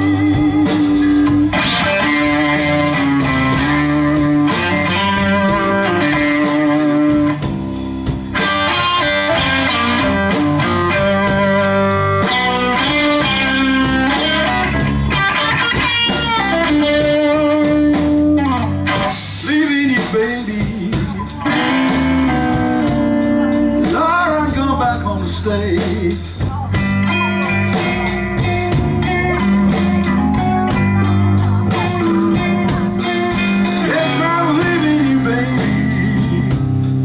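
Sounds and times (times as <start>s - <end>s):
electric guitar lead bending notes: 0.0s - 37.0s
low bass line: 0.0s - 37.0s.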